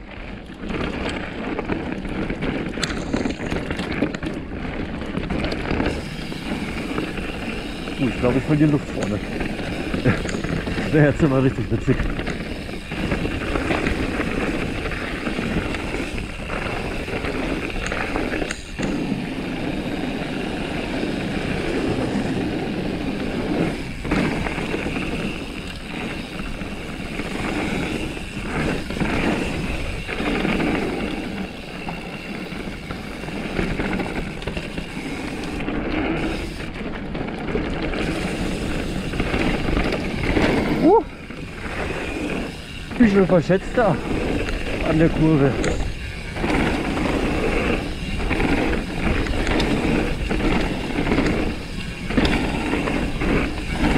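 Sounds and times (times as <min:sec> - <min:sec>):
bike tyres rolling and rattling: 0:00.0 - 0:53.9.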